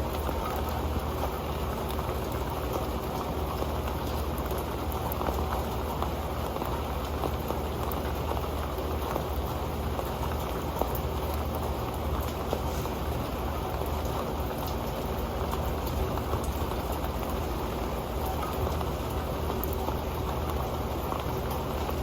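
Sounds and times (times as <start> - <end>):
rain pattering on metal pan: 0.0 - 22.0.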